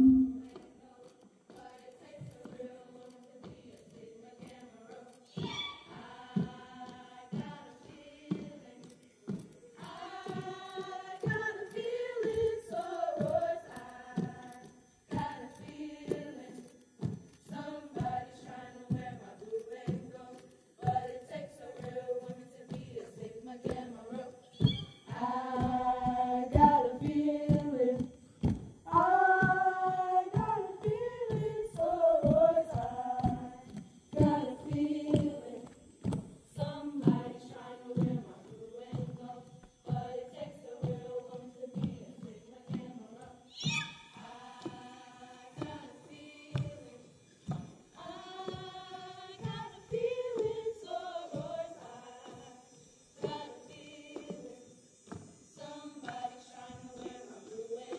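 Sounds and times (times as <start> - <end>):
women singing without instruments: 0.0 - 57.9.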